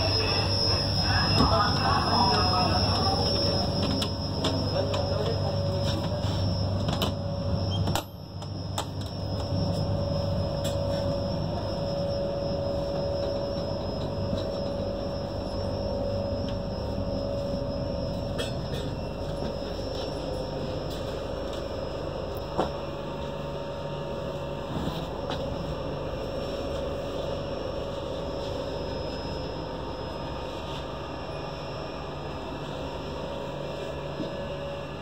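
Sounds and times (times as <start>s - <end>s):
constant hum: 0.0s - 35.0s
train coach rumble: 0.0s - 35.0s.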